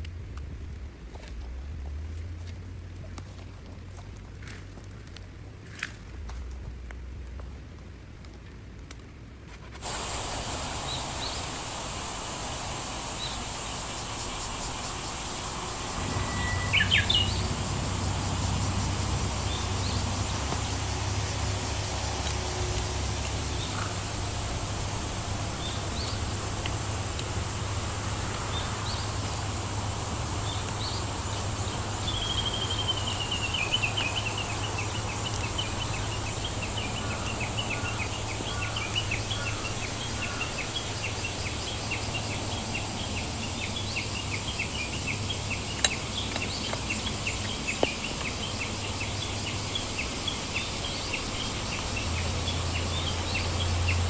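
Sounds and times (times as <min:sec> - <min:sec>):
small bird chirping: 0:09.8 - 0:54.0
water hiss: 0:09.8 - 0:54.0.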